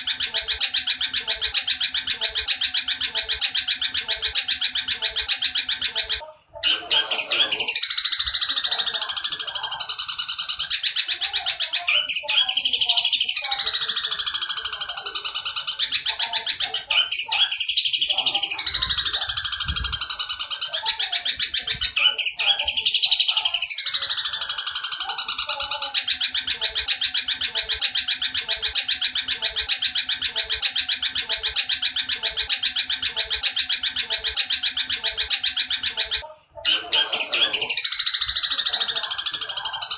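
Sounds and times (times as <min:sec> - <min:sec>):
bird rapid chattering calls: 0:00.0 - 0:39.9.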